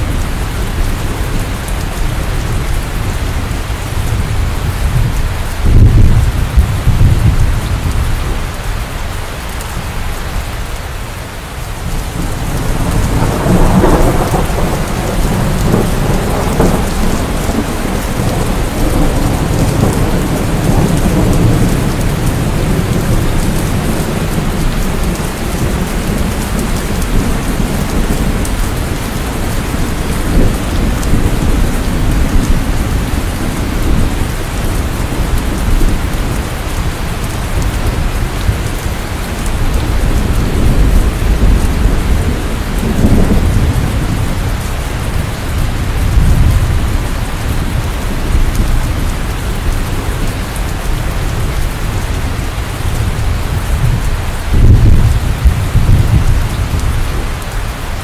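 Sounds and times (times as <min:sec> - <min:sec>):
rolling thunder: 0:00.0 - 0:08.6, 0:11.8 - 0:57.6
heavy rain: 0:00.0 - 0:58.0.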